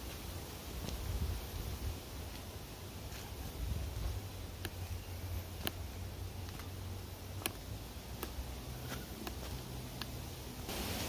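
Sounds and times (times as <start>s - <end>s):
footsteps on a trail: 0.0s - 10.4s.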